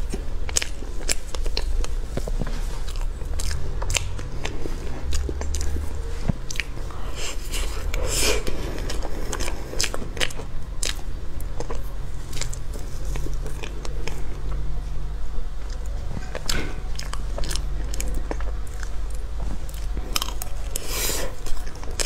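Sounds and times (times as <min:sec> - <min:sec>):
wet chewing: 0:00.0 - 0:14.7, 0:15.6 - 0:22.0
steady low hum: 0:00.0 - 0:22.0.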